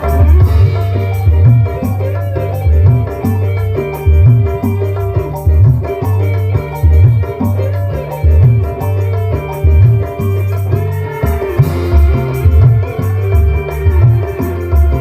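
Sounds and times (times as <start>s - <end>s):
bass line: 0.0s - 15.0s
guitar melody: 0.0s - 15.0s
steady drum beat: 0.0s - 15.0s.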